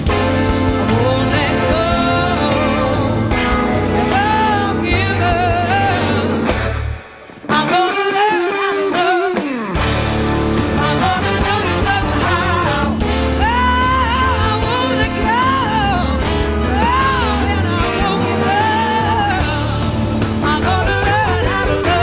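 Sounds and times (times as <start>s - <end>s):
live blues-rock band: 0.0s - 22.0s
person singing: 0.6s - 6.5s, 7.5s - 9.8s, 10.8s - 22.0s.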